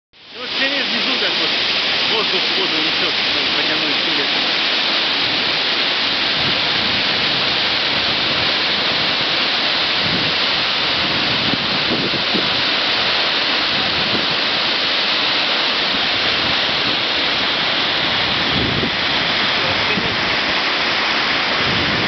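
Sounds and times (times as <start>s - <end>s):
waterfall rushing: 0.2s - 22.0s.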